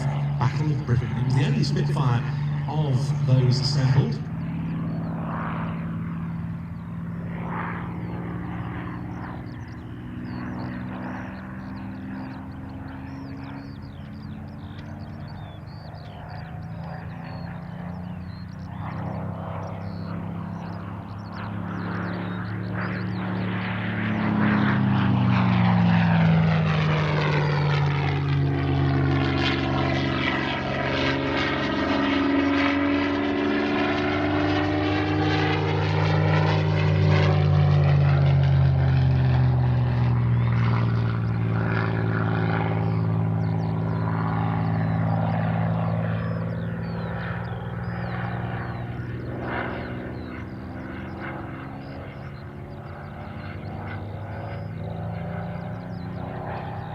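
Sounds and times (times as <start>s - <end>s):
propeller aircraft engine passing: 0.0s - 56.9s.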